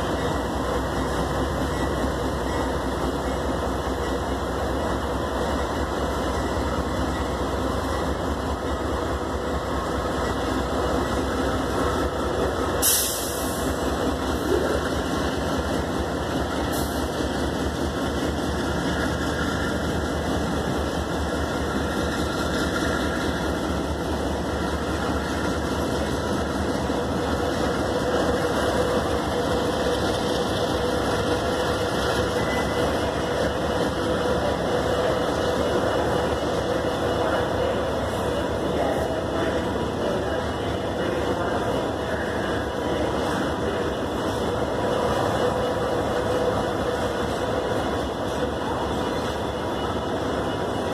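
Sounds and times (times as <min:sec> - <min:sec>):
diesel locomotives passing: 0:00.0 - 0:50.9.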